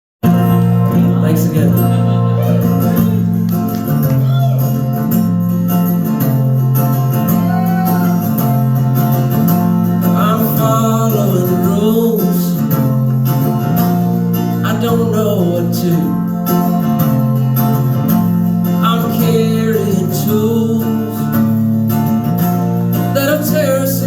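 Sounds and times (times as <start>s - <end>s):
acoustic guitar playing slow song: 0.2s - 24.0s.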